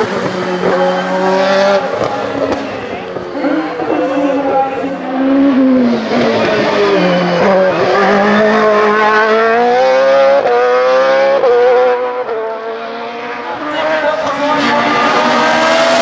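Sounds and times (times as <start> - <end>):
race car accelerating past: 0.0 - 16.0.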